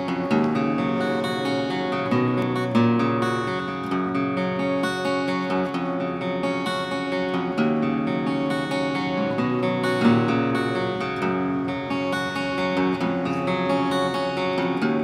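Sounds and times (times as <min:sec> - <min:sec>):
acoustic guitar chords strummed: 0:00.0 - 0:15.0.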